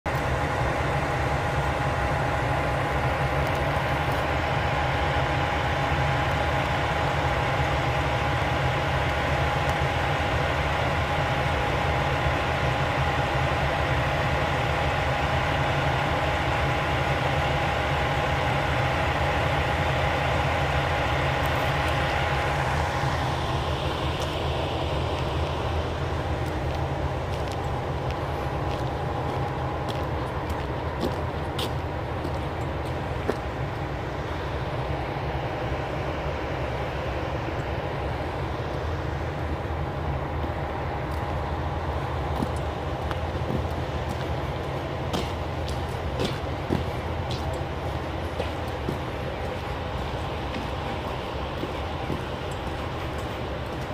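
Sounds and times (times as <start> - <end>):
diesel railcar engine idling: 0.0 - 53.9.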